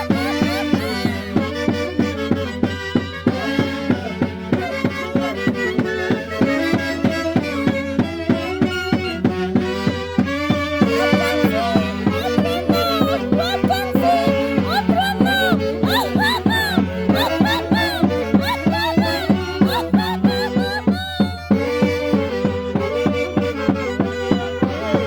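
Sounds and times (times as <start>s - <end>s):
violin-led band music: 0.0s - 25.0s.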